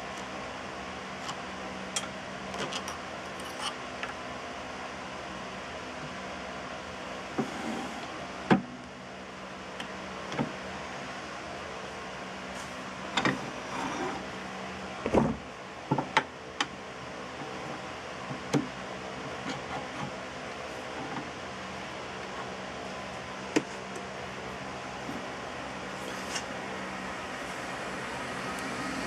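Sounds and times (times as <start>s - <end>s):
mechanical hum with tones: 0.0s - 29.0s.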